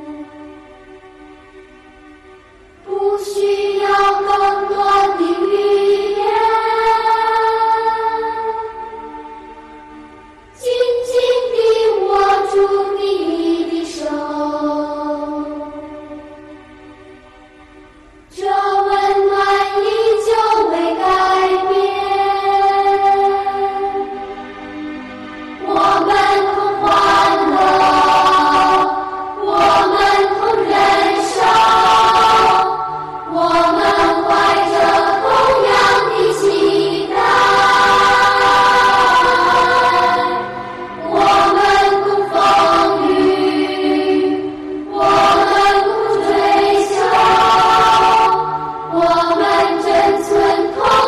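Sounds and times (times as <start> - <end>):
voices singing slow chant: 0.0 - 51.0.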